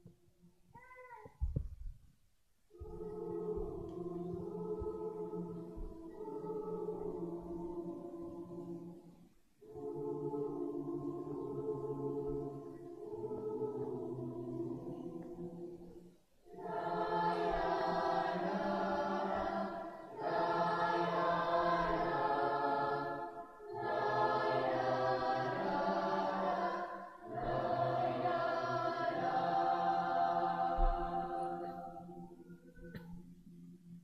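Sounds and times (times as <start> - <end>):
choir singing in harmony: 2.7 - 33.9.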